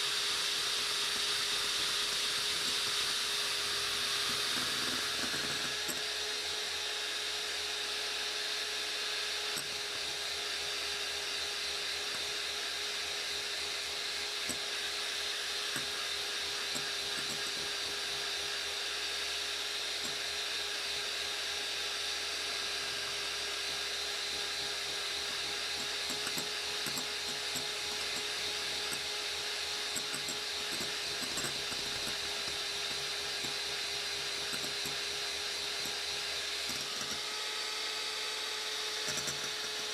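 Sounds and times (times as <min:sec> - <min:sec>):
electric hand mixer whipping: 0:00.0 - 0:39.9.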